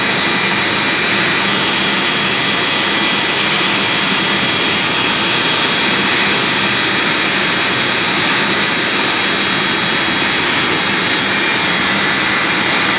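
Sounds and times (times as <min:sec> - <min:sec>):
metal lathe running: 0:00.0 - 0:12.9.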